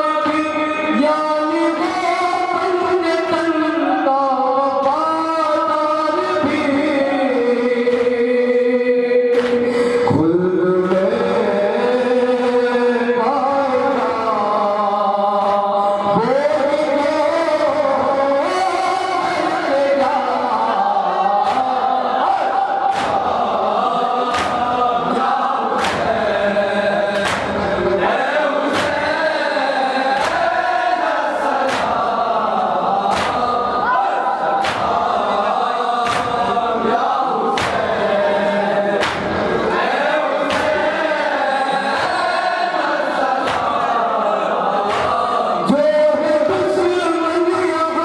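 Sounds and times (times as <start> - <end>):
men chanting a lament: 0.0 - 48.0.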